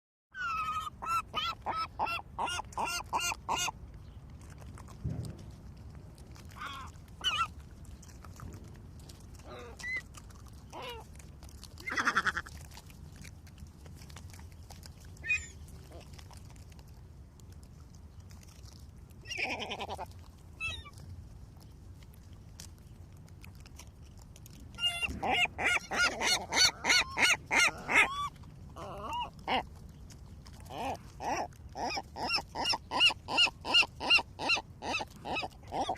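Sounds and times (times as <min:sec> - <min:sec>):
low steady rumble: 0:00.4 - 0:35.9.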